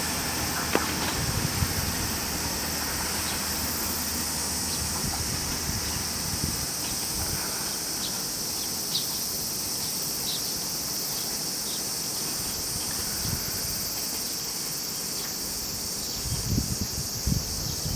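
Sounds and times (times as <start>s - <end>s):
diesel railcar running: 0.0s - 17.9s
insect chorus: 0.0s - 17.9s.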